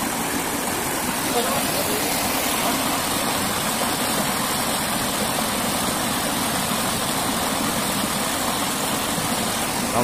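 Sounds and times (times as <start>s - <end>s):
stream rushing over boulders: 0.0s - 10.0s.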